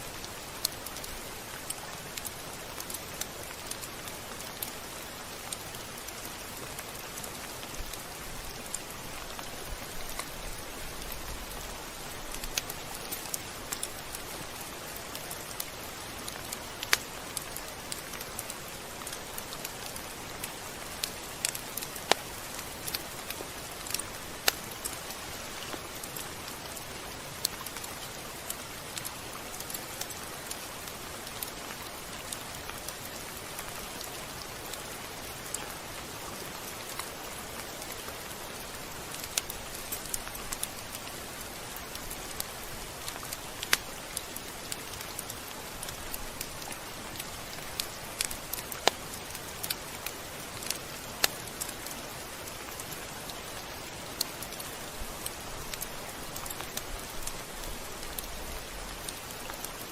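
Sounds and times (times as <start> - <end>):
rain drops ticking: 0.0 - 59.9
steady rain falling: 0.0 - 59.9.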